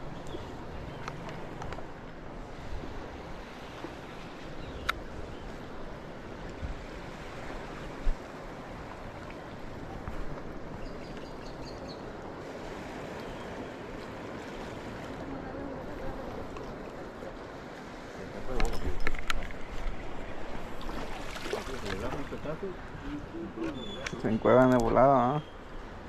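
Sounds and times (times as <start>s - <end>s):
water washing at shoreline: 0.0s - 26.0s
wind: 0.0s - 26.0s.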